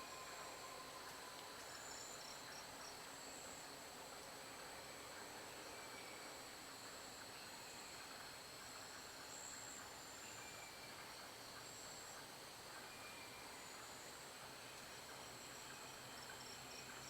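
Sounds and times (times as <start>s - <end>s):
insect chorus shrill drone: 0.0s - 3.6s, 4.5s - 6.6s, 7.3s - 17.0s.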